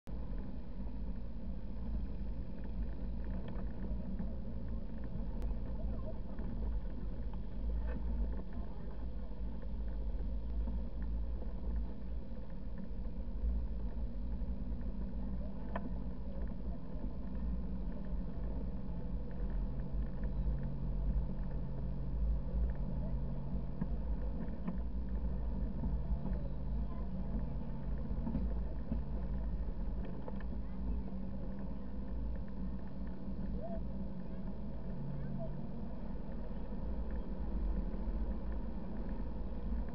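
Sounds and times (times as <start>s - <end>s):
car engine hum: 0.1s - 39.9s.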